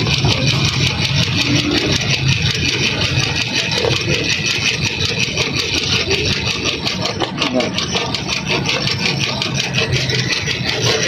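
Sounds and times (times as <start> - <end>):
fast even ticking: 0.0 - 11.0
ice-shaving machine motor: 0.0 - 11.0.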